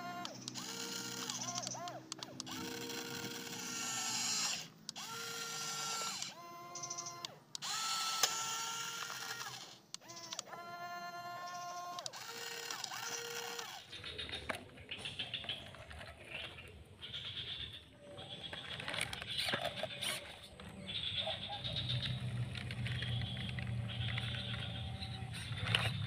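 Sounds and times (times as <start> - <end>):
toy truck motor whirring: 0.0 - 14.6, 18.2 - 20.7, 21.6 - 26.0.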